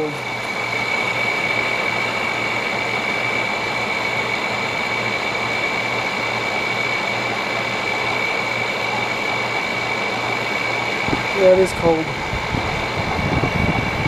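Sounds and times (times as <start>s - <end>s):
air conditioner air rush: 0.0s - 14.0s
high-pitched whine: 0.0s - 14.0s
low pulsing hum: 0.0s - 14.0s.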